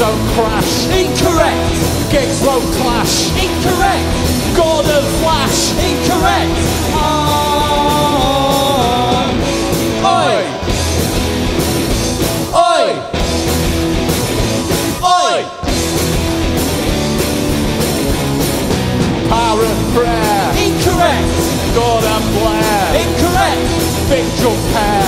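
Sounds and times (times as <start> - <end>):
punk rock band playing: 0.0 - 25.0.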